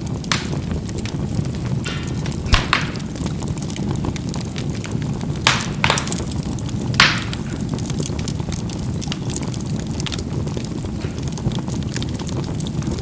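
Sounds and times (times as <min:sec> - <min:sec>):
charcoal bursting pop: 0:00.0 - 0:13.0
low rumble of flame: 0:00.0 - 0:13.0
small fire crackles: 0:00.0 - 0:13.0.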